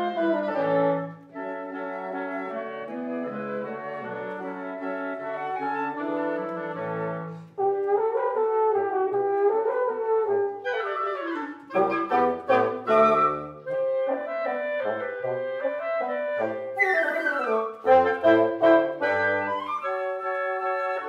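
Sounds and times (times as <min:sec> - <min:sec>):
bassoon: 0:00.0 - 0:21.0
clarinet: 0:00.0 - 0:21.0
flute: 0:00.0 - 0:21.0
french horn: 0:00.0 - 0:21.0
oboe: 0:00.0 - 0:21.0.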